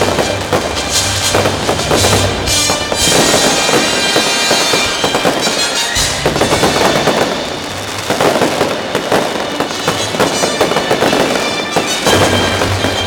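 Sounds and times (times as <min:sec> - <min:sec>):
fireworks crackling and hissing: 0:00.0 - 0:13.0
music playing: 0:00.0 - 0:13.0.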